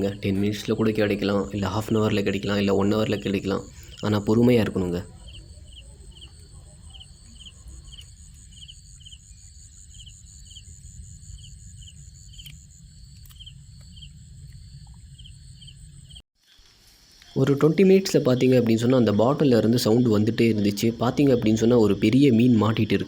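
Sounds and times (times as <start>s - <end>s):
crickets chirping: 0.0s - 23.0s
high-pitched insect trill: 0.0s - 23.0s.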